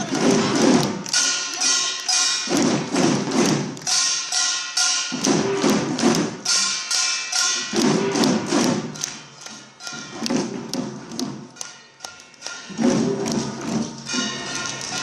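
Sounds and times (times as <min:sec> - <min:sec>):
hourglass drum strokes: 0:00.0 - 0:11.8, 0:12.4 - 0:15.0
ringing metallic percussion: 0:00.0 - 0:15.0.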